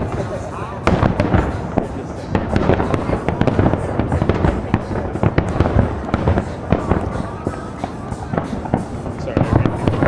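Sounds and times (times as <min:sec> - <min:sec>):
distant fireworks booms: 0:00.0 - 0:10.0
fireworks bangs and cracks: 0:00.0 - 0:10.0.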